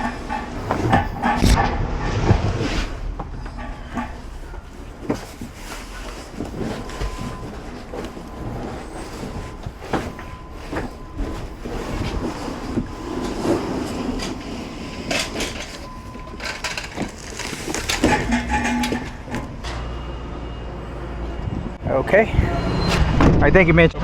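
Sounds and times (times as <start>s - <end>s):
wheels rumbling over hard floor: 0.0s - 20.0s
knocks and clanks of freight: 0.0s - 20.2s.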